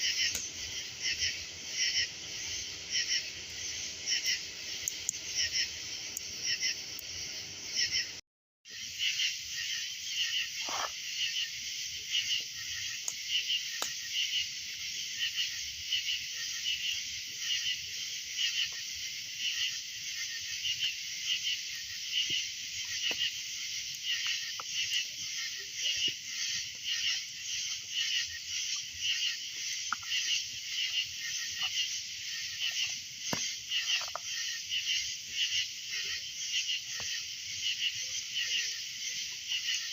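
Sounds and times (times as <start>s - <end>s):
pulsing chorus of night animals: 0.0s - 39.9s.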